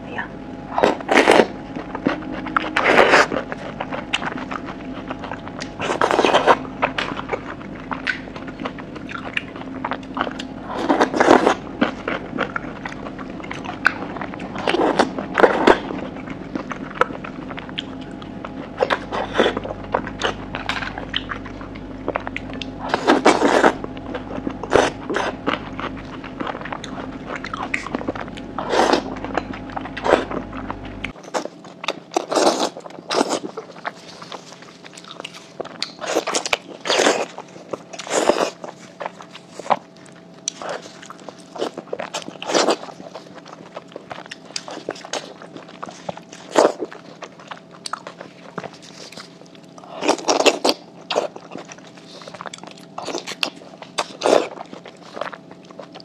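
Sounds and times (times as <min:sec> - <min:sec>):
biting and chewing: 0:00.7 - 0:56.0.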